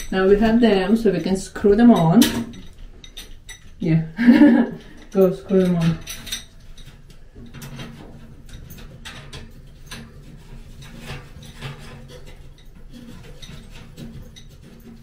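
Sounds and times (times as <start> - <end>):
metal shelving parts clinking: 0.0 - 15.0.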